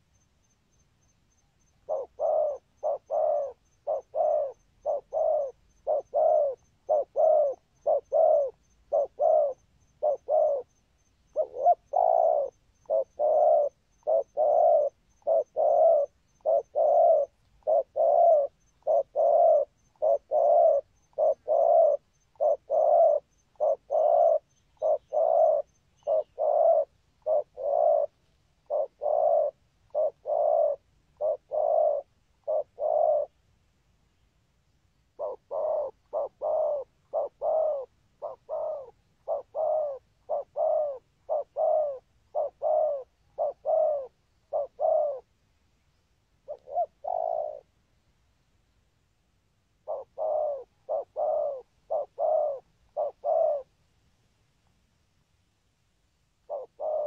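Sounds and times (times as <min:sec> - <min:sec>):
dove cooing: 0:00.0 - 0:00.2, 0:01.3 - 0:33.4, 0:35.1 - 0:45.3, 0:46.4 - 0:47.8, 0:49.8 - 0:53.8, 0:56.5 - 0:57.0.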